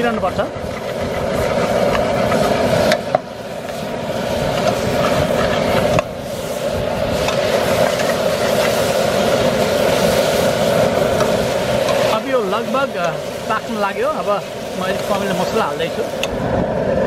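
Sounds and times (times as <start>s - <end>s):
chicken frying: 0.0s - 16.6s
gas burner rushing: 0.0s - 17.0s.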